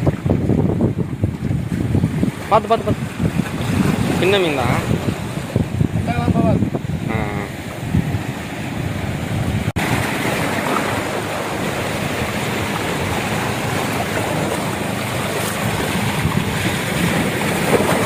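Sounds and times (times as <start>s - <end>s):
surf washing against rocks: 0.0s - 18.0s
wind on microphone: 0.0s - 18.0s.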